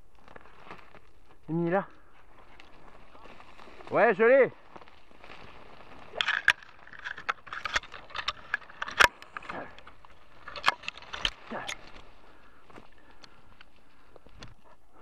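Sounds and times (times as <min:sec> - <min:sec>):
dry branches crackling and snapping: 0:00.0 - 0:15.0.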